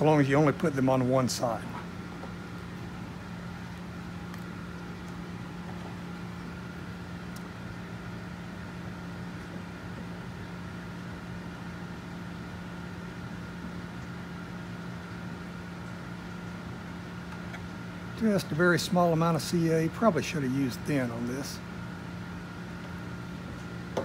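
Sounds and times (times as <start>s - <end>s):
machine hum with low drone: 0.0s - 24.0s.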